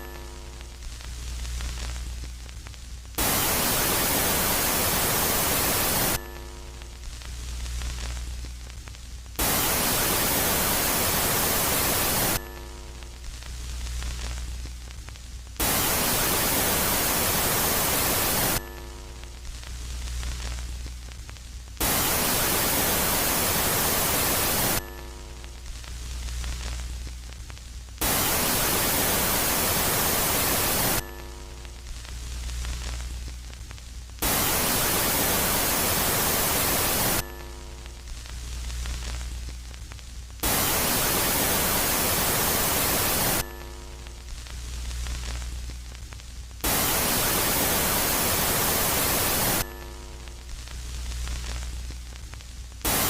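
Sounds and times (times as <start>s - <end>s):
hissing static: 0.0s - 53.0s
low hum with faint tones: 0.0s - 53.0s.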